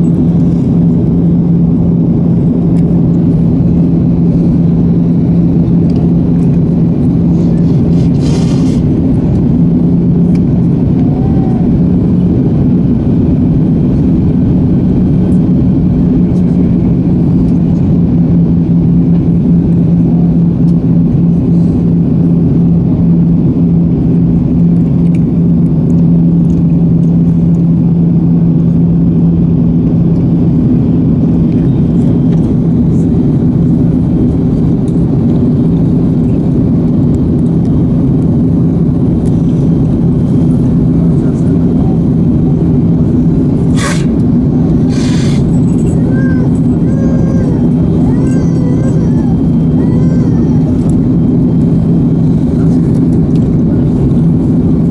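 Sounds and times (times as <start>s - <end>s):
jet engine drone in cabin: 0.0s - 54.9s.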